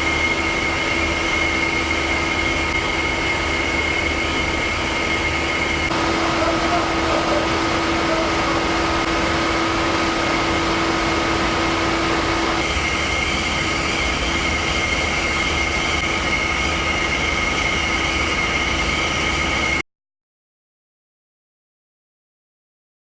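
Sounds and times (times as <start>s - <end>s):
high whining tones: 0.0s - 19.8s
industrial machinery drone: 0.0s - 19.8s.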